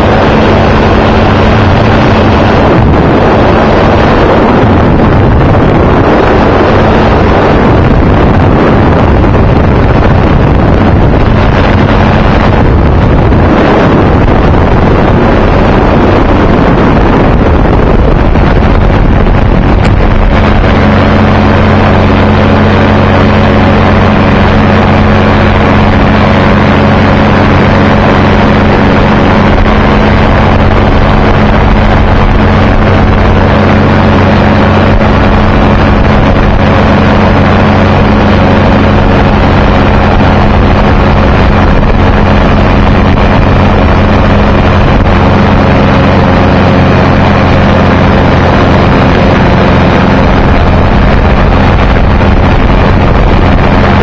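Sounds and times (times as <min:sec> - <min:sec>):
aircraft engine drone: 0:00.0 - 0:54.0
wind rushing over microphone: 0:00.0 - 0:54.0.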